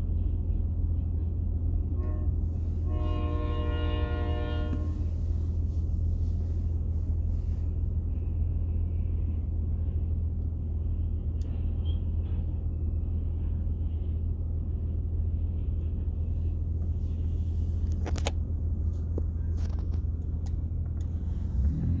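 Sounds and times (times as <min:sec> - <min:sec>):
passing train rumble: 0:00.0 - 0:22.0.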